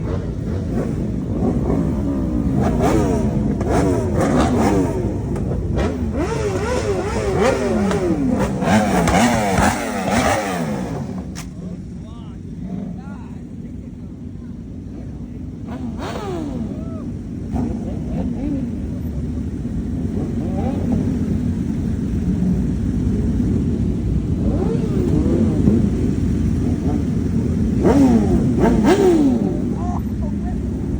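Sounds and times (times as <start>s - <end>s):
motorcycles accelerating: 0.0s - 30.9s.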